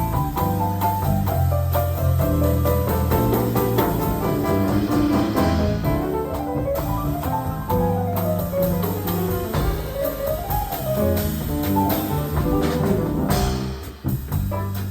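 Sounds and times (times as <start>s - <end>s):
drums on cymbals: 0.0s - 14.9s
jazz piano: 0.0s - 14.9s
walking bass: 0.0s - 14.9s.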